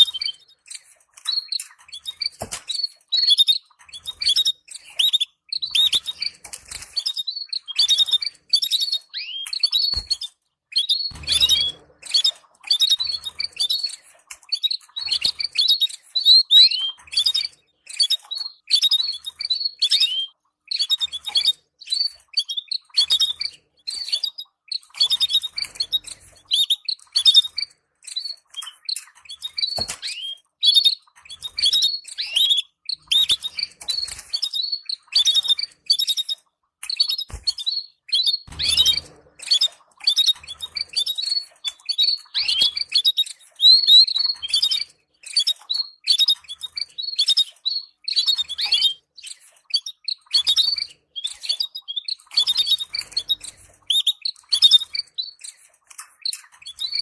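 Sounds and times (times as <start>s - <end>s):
canaries twittering: 0.0s - 57.0s.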